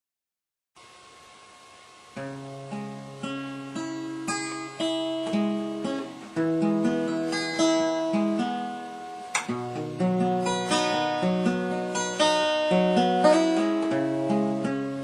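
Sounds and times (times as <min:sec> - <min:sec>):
acoustic guitar plucked notes: 0:02.2 - 0:15.0
strummed guitar chord: 0:02.2 - 0:15.0.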